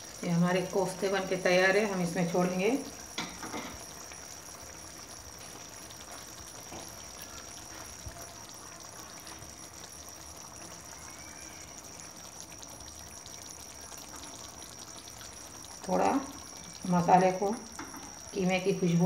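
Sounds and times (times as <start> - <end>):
gravy bubbling in a pan: 0.0 - 19.0.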